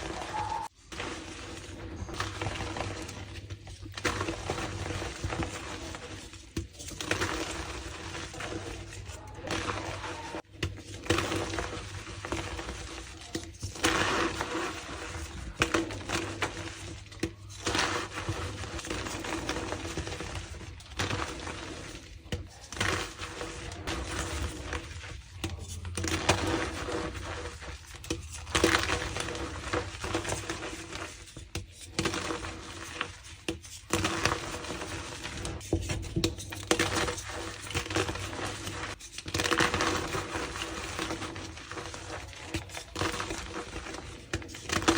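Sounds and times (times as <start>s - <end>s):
chalk blocks crunching: 0.0s - 44.9s.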